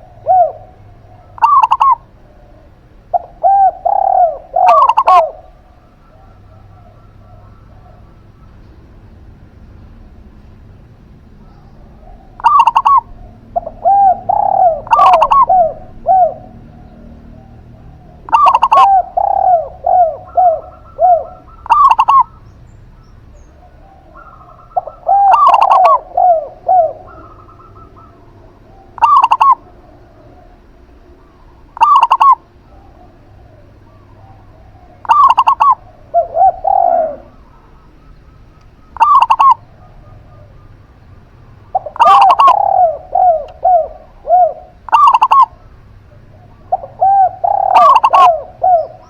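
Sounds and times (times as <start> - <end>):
doves cooing: 0.0 - 49.0.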